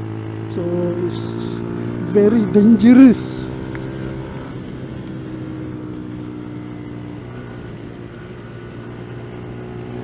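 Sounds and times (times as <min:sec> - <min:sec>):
motorcycle engine running: 0:00.0 - 0:10.0
tyre noise on wet road: 0:00.0 - 0:10.0.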